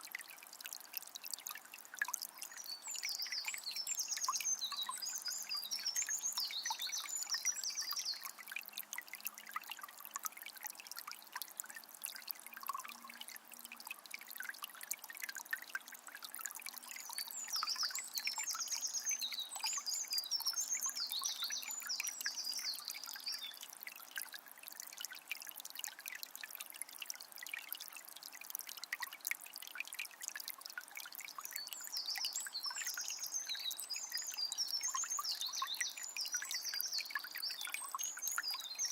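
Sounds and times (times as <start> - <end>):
spring water trickling and splashing: 0.0 - 38.9.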